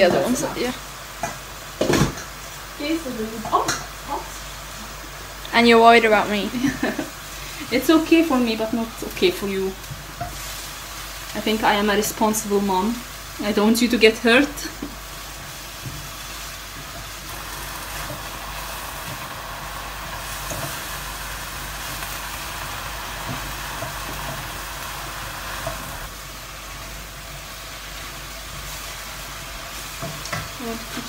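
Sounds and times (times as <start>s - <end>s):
vegetables sizzling in a wok: 0.0s - 31.0s.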